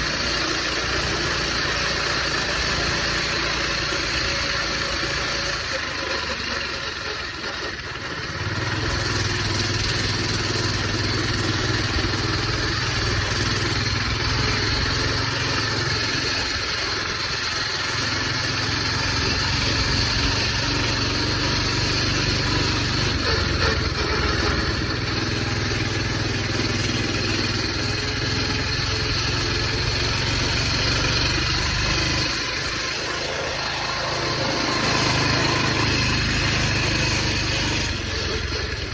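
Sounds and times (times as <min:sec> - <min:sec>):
minibike engine running: 0:00.0 - 0:38.9.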